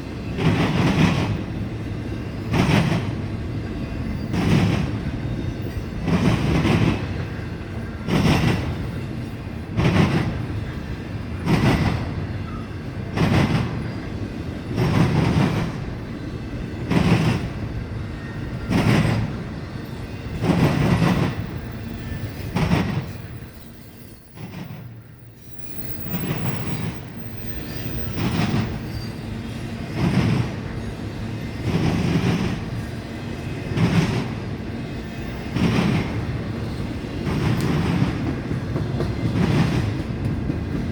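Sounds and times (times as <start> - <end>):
train wheels pounding over rail joints: 0.0 - 40.9.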